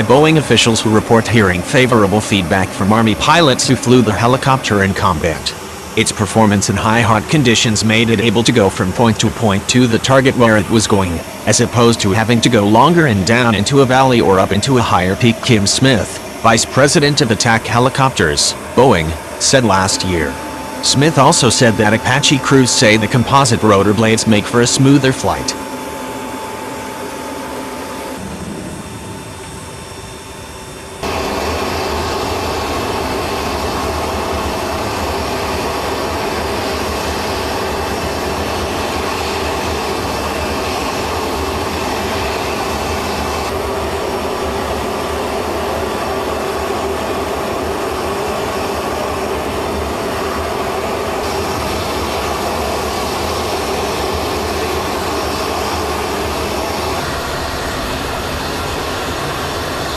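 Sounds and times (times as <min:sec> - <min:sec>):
aircraft turbine engine: 0:00.0 - 0:59.9.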